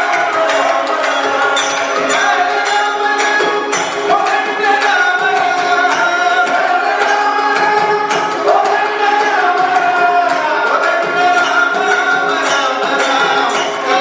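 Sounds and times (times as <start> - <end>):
group singing: 0.0 - 14.0
man singing lead: 0.0 - 14.0.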